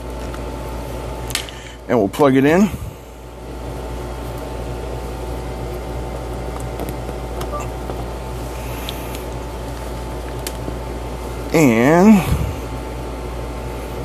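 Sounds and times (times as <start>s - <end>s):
speaker mains hum and hiss: 0.0s - 14.0s.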